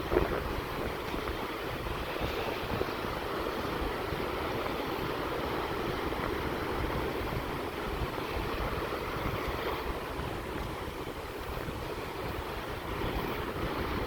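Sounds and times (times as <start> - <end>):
sea surf washing in: 0.0 - 14.0
wind buffeting microphone: 0.0 - 14.0.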